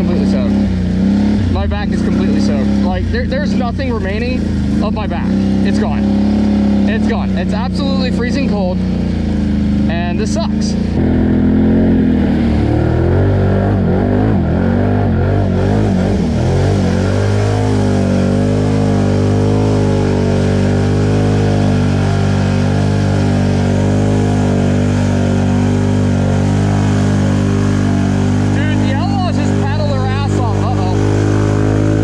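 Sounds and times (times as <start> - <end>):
atv engine revving: 0.0 - 32.0.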